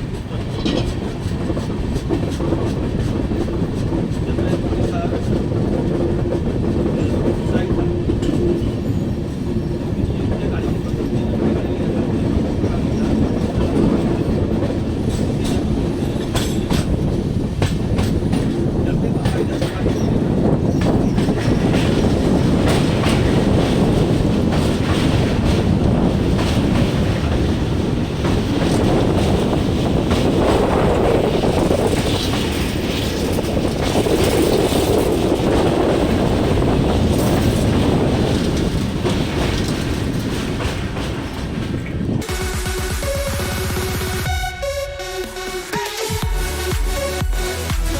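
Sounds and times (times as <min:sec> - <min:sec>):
wheels clickety-clack on track: 0:00.0 - 0:44.3
train coaches rumbling: 0:00.0 - 0:47.9.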